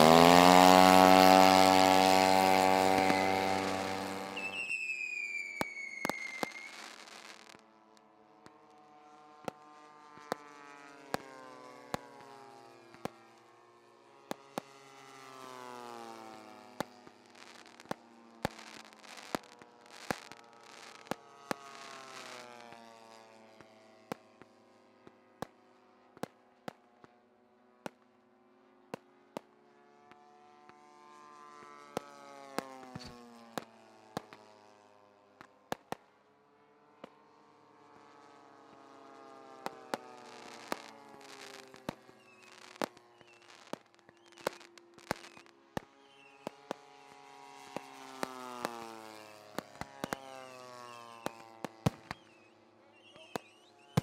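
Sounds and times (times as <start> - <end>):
firework pops and crackles: 0.0 - 8.8, 9.4 - 13.4, 14.2 - 15.8, 16.6 - 27.2, 27.8 - 28.2, 28.8 - 30.8, 31.6 - 34.7, 35.4 - 36.2, 37.0 - 37.3, 38.1 - 54.0
model airplane engine passing: 0.0 - 25.4, 29.6 - 35.7, 36.4 - 43.8, 44.4 - 54.0.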